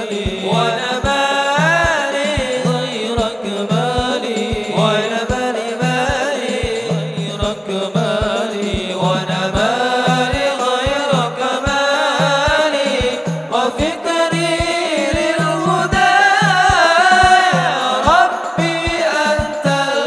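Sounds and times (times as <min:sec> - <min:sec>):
men singing through microphones: 0:00.0 - 0:20.0
low drum beat: 0:00.2 - 0:11.5, 0:12.2 - 0:19.9.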